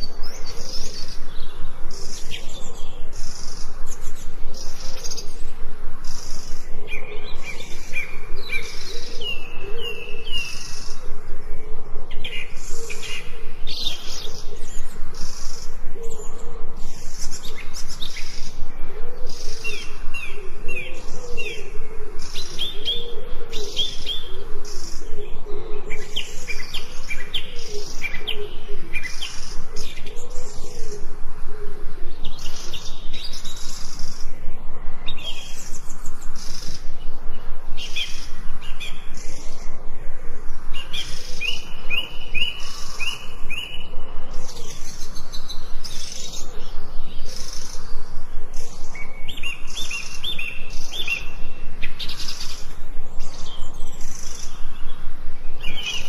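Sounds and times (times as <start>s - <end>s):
steady high pulsing: 0.0s - 56.0s.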